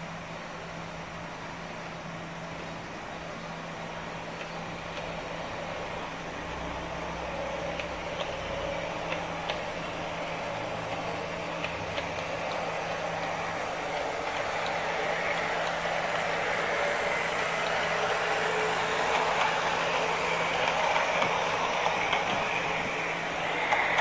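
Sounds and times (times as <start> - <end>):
model train motor humming: 0.0 - 24.0.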